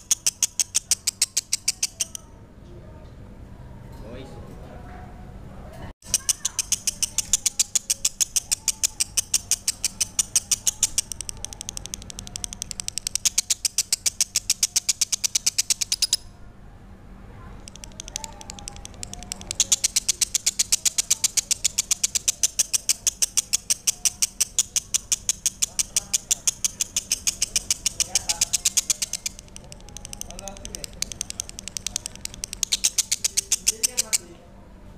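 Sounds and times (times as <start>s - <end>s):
lovebird chattering song: 0.0s - 2.3s, 6.0s - 16.3s, 17.6s - 34.4s.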